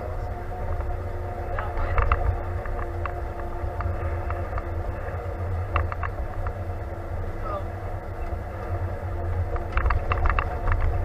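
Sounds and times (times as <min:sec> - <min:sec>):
steady hum: 0:00.0 - 0:11.0
tractor engine droning: 0:00.0 - 0:11.0.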